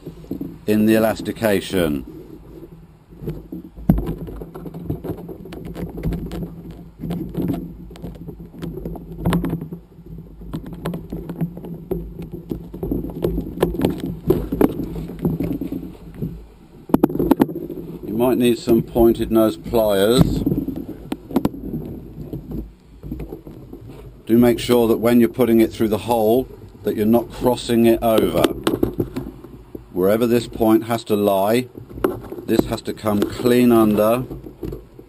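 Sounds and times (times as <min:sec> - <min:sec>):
low steady rumble: 0:00.0 - 0:35.0
rustle of lines: 0:00.0 - 0:35.0.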